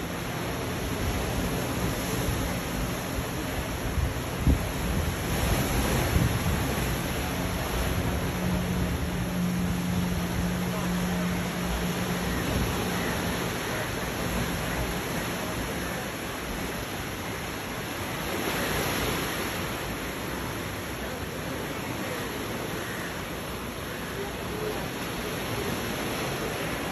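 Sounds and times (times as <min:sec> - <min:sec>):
waves breaking on a beach: 0:00.0 - 0:26.9.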